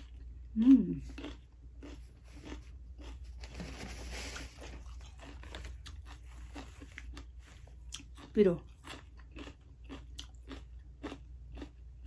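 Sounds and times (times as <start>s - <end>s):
chewing crunchy vegetables: 0.0s - 12.0s.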